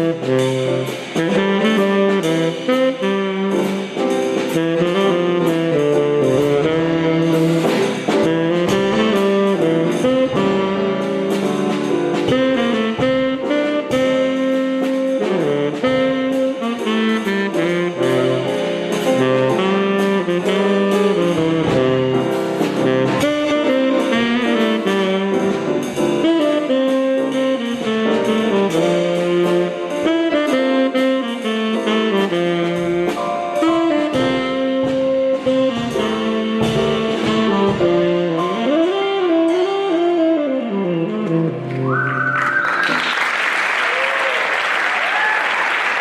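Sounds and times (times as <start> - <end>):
steady drum beat: 0.0 - 39.3
saxophone melody: 0.0 - 43.4
brass instruments: 0.0 - 46.0.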